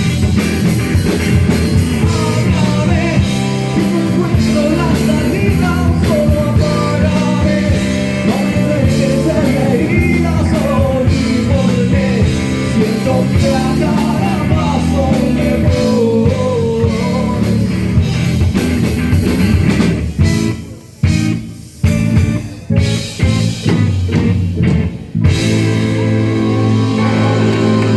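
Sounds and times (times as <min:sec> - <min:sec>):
guitar melody: 0:00.0 - 0:27.9
rock band playing: 0:00.0 - 0:27.9.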